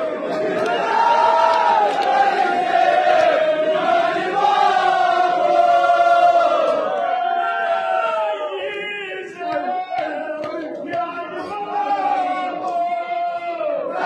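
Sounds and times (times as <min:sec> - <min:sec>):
crowd of men chanting: 0:00.0 - 0:12.7.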